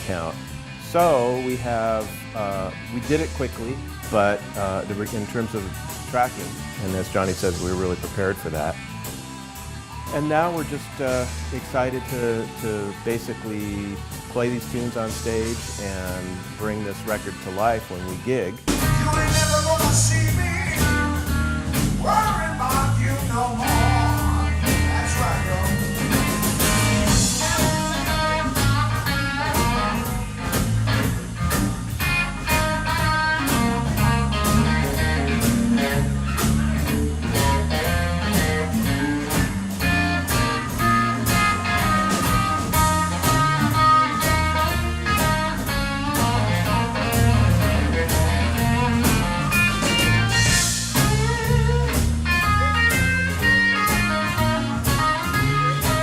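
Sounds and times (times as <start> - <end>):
blues-rock band music: 0.0 - 56.0
electric guitar lead: 0.0 - 56.0.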